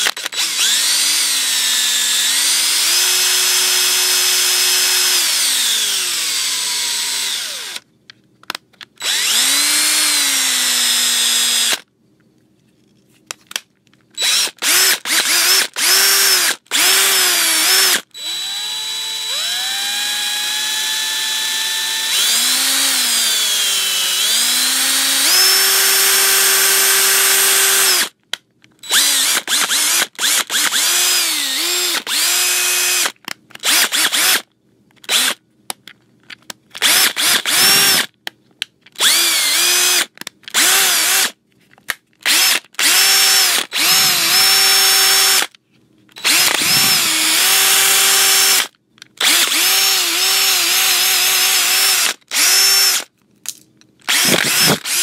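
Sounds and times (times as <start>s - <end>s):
power drill motor whining: 0.0s - 7.8s, 9.0s - 11.8s, 14.2s - 28.1s, 28.8s - 34.4s, 35.1s - 35.4s, 36.8s - 38.1s, 39.0s - 41.4s, 42.3s - 45.5s, 46.1s - 53.1s, 54.1s - 55.0s.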